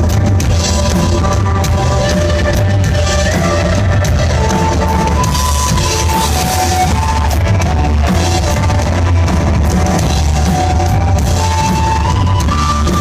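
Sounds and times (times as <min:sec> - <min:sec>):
drum kit: 0:00.0 - 0:13.0
electric guitar sustained lead notes: 0:00.0 - 0:13.0
heavy bass: 0:00.0 - 0:13.0.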